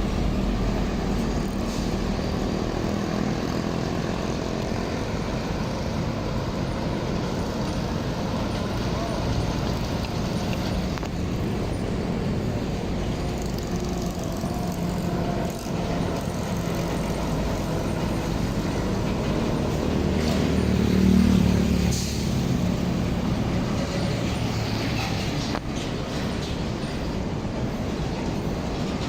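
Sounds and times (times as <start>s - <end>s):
traffic noise: 0.0s - 29.0s
truck engine running: 0.0s - 29.0s.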